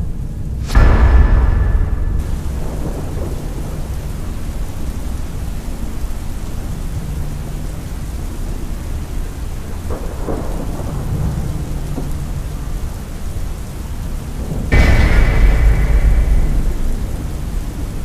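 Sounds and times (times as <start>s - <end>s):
rain hissing: 0.0s - 18.0s
thunder rumble: 0.4s - 8.3s, 9.4s - 18.0s.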